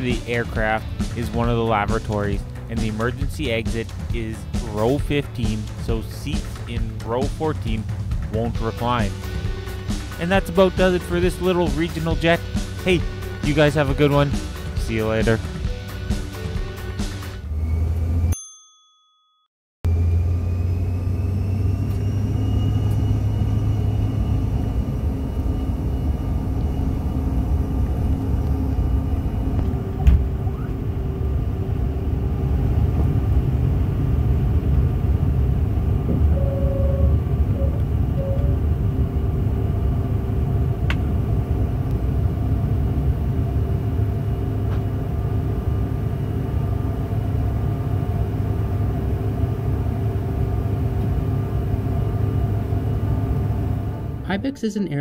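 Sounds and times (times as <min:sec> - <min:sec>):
jet engine whine rising: 0:00.0 - 0:18.3, 0:19.9 - 0:54.8
jet engines and runway rumble: 0:00.0 - 0:18.3, 0:19.9 - 0:54.9.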